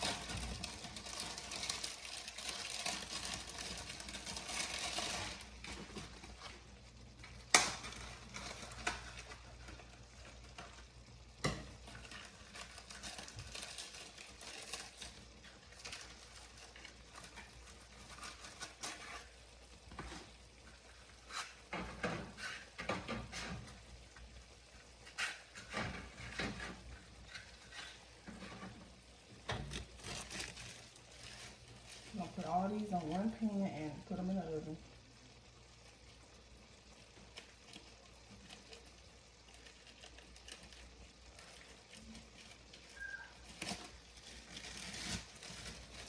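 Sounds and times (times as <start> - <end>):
stirring and scraping: 0.0 - 34.2, 36.9 - 46.0
light sizzle: 0.0 - 46.0.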